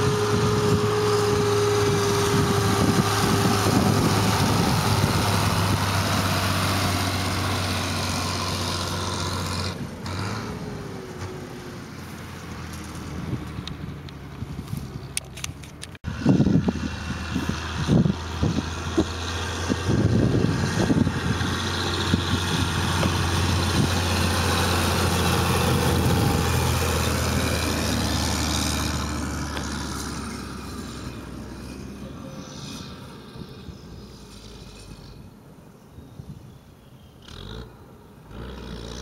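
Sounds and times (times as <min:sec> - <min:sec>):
tractor engine droning: 0:00.0 - 0:35.6.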